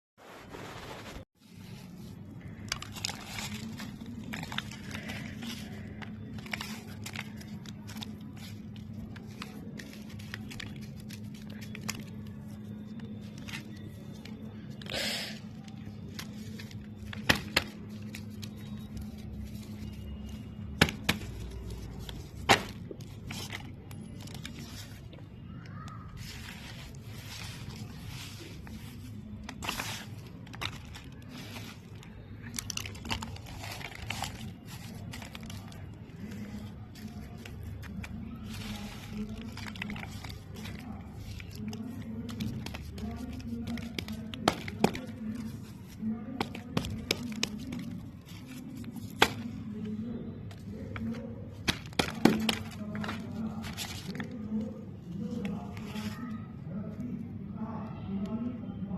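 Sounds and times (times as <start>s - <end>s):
soft squishing of craft material: 0.3s - 58.9s
small clicks and crackles: 1.5s - 56.5s.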